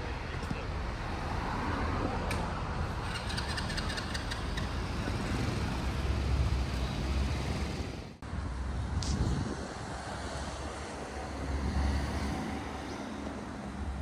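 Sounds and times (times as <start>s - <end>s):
cars going by: 0.0s - 14.0s.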